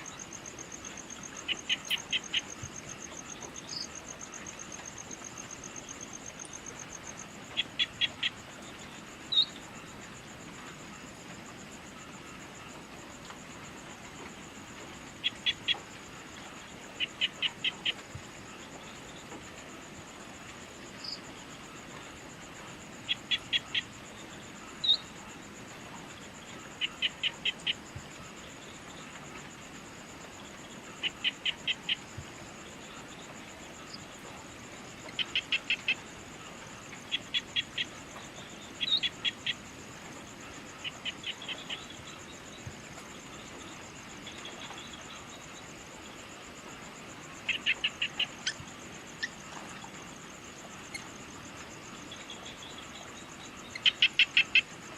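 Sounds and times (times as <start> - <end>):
high insect trill: 0.0 - 54.9.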